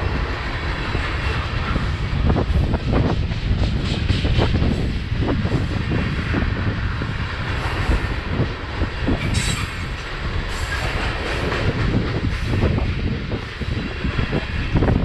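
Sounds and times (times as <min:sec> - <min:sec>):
freight train cars rumbling past: 0:00.0 - 0:15.0
wheels clicking over rail joints: 0:00.0 - 0:15.0.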